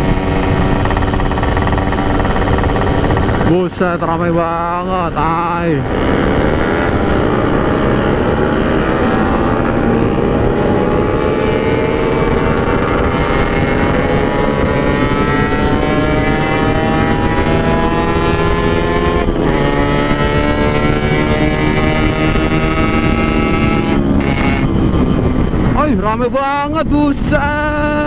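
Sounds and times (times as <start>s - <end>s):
two-stroke motorcycle engine: 0.0s - 26.0s
low rushing noise: 0.0s - 28.0s.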